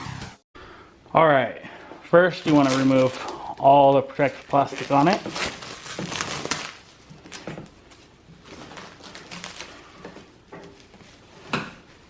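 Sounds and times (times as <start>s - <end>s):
plastic film peeling and crinkling: 2.3s - 12.0s.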